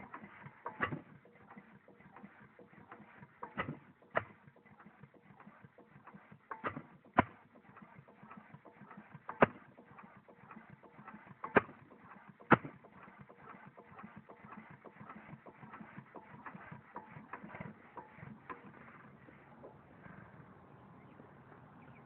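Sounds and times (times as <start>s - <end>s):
sharp knocks and clicks: 0.0s - 19.8s.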